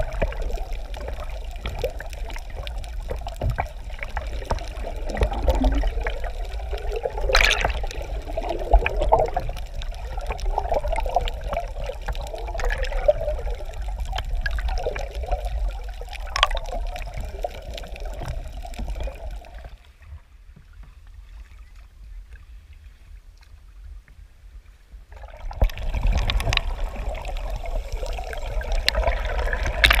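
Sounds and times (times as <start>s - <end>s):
underwater water rushing and bubbling: 0.0s - 30.0s.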